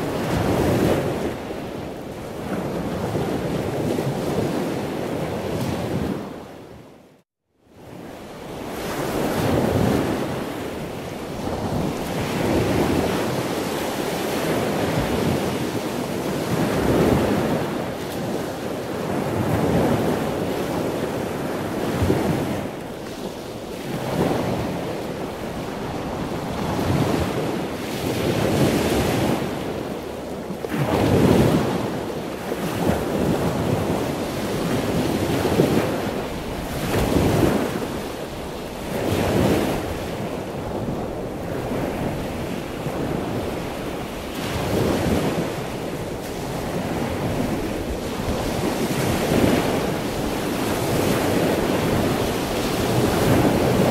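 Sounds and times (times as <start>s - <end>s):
waves sloshing and splashing: 0.0s - 6.4s, 8.0s - 53.9s
wind buffeting microphone: 0.0s - 7.0s, 7.8s - 53.9s.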